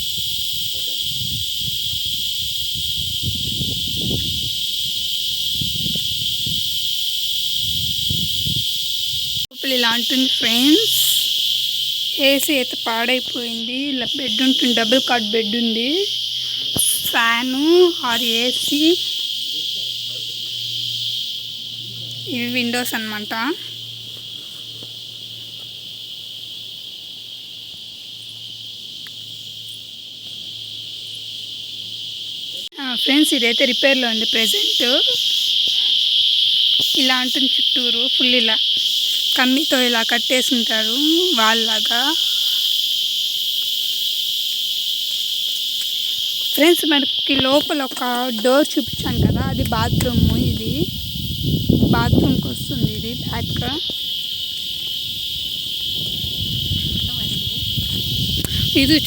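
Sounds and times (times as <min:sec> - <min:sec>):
insect chorus drone: 0:00.0 - 0:59.0.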